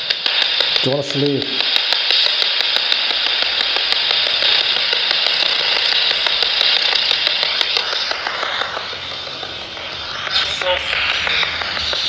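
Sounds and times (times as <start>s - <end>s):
faint radio ticks: 0.0s - 12.0s
radio static hiss: 0.0s - 12.0s.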